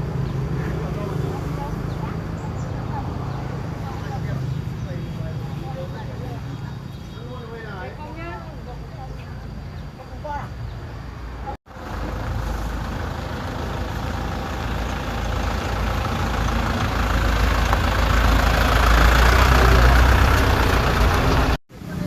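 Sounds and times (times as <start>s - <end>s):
vehicle engine running: 0.0s - 10.4s, 11.3s - 22.0s.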